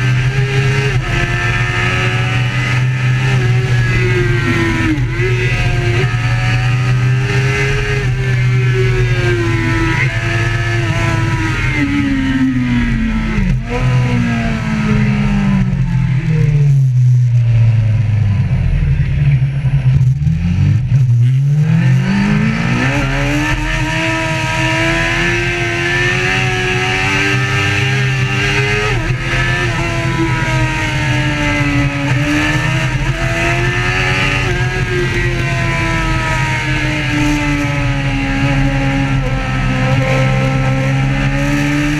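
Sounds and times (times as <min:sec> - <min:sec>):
vehicle engine revving: 0:00.0 - 0:41.9.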